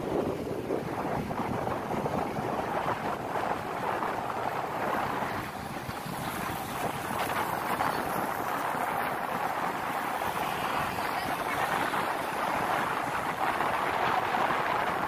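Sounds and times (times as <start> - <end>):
road and traffic noise: 0.0 - 15.0
wind rushing over microphone: 0.0 - 15.0.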